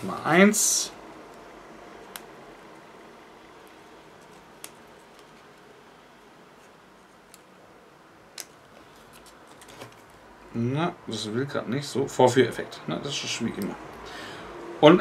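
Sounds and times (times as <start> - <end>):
low room hiss: 0.0 - 15.0.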